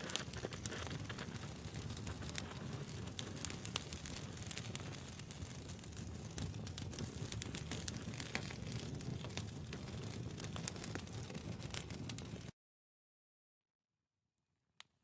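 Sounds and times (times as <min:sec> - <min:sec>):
fire crackling and popping: 0:00.0 - 0:12.5
wood fire low rumble: 0:00.0 - 0:12.5.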